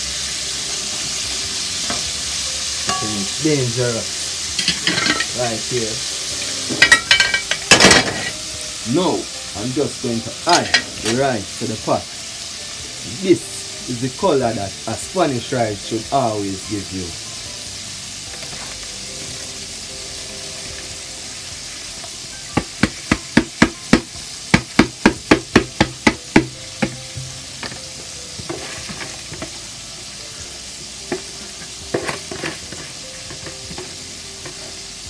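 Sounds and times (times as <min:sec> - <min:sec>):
frying sizzle: 0:00.0 - 0:35.0.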